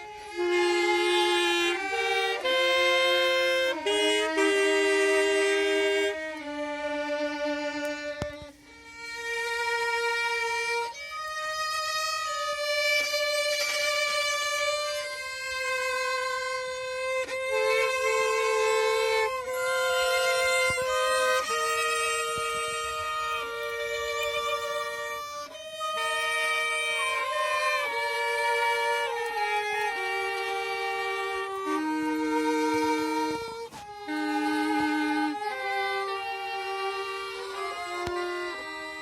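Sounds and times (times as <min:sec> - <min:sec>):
violin slow melody: 0:00.0 - 0:39.0.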